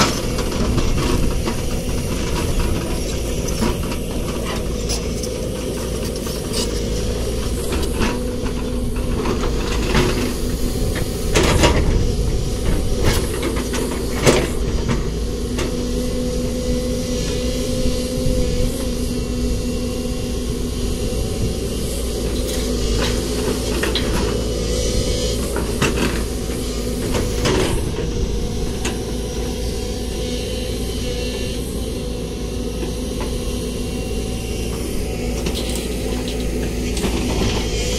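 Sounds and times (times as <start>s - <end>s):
excavator diesel engine and hydraulics: 0.0s - 37.9s.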